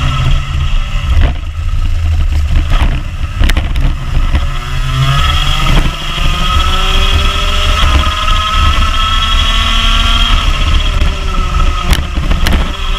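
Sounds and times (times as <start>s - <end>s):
kart engine revving: 0.0s - 12.9s.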